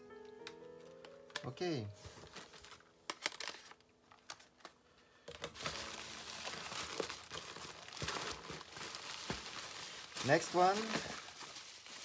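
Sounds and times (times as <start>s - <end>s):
bubble wrap crinkling: 0.4s - 12.0s.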